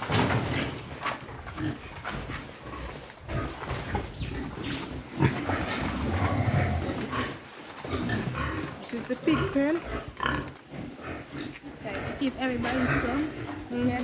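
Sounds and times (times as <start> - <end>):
pigs grunting: 0.0 - 14.0.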